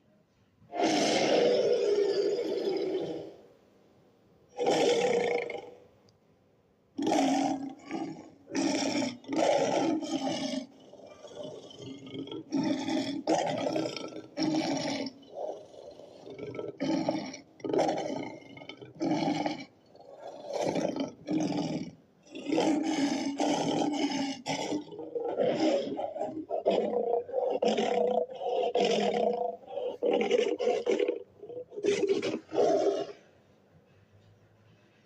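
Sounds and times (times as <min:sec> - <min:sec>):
creature roars and growls: 0:00.7 - 0:03.3, 0:07.0 - 0:33.2.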